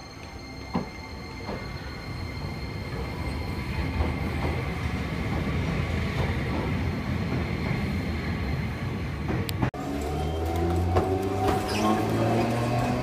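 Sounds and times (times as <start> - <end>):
train motors and wheels rumbling: 0.0 - 13.0.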